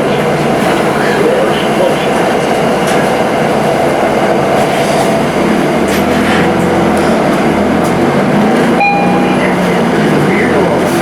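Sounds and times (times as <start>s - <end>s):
train running: 0.0s - 11.0s.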